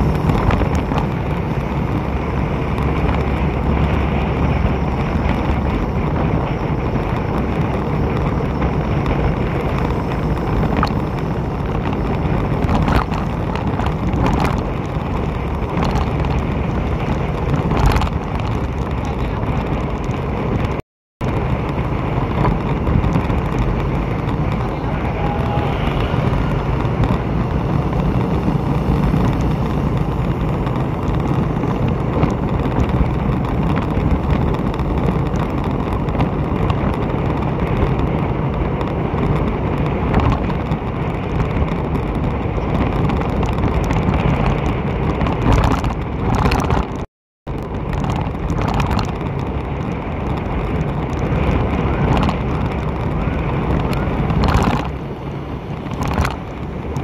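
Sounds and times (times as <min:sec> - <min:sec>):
motorbike engine and tyres: 0:00.0 - 0:57.0
wind rushing over microphone: 0:00.0 - 0:57.0.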